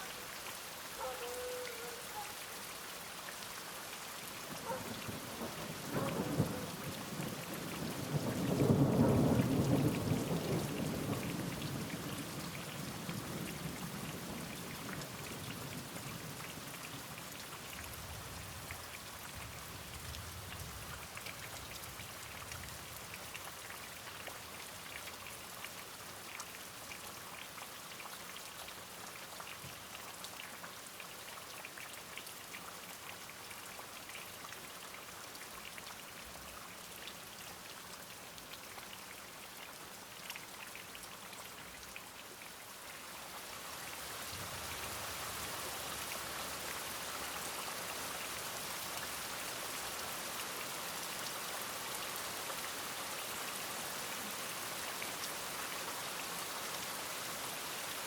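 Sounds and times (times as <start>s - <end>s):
raindrops pattering: 0.0s - 58.0s
steady rain: 0.0s - 58.0s.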